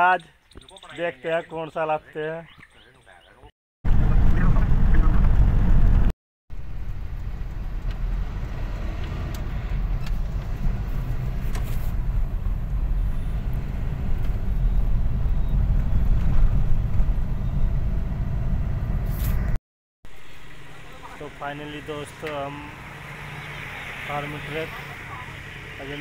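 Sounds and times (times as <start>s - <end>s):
car engine and road noise: 3.9s - 26.0s.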